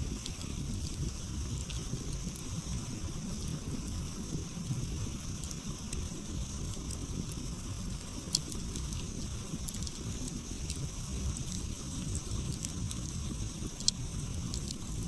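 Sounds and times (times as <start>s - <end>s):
campfire pops: 0.0s - 15.0s
low rumble of fire: 0.0s - 15.0s.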